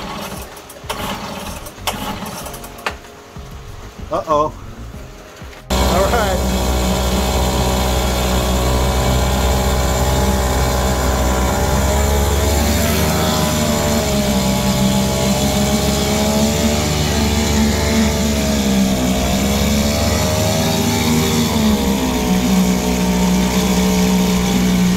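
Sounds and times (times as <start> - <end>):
outboard motor running: 0.0 - 2.8, 5.7 - 24.9
propeller churning water: 0.0 - 2.8, 4.9 - 24.9.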